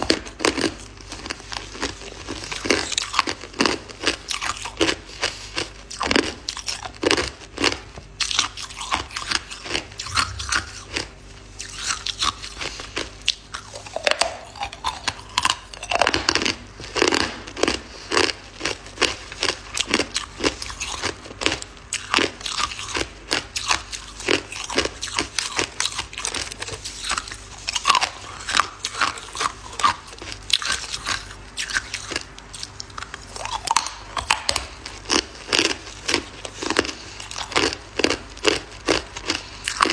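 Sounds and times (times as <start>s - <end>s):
ice crunching in mouth: 0.0s - 39.9s.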